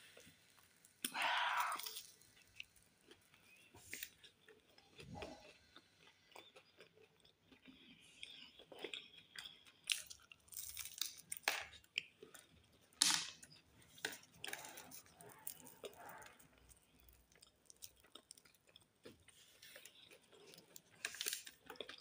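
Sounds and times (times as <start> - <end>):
person chewing: 0.9 - 22.0.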